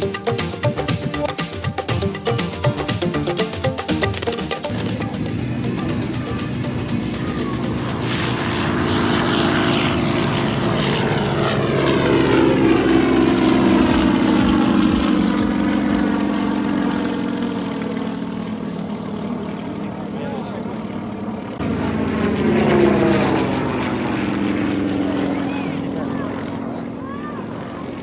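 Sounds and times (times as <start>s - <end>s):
propeller airplane engine passing: 0.0s - 28.0s.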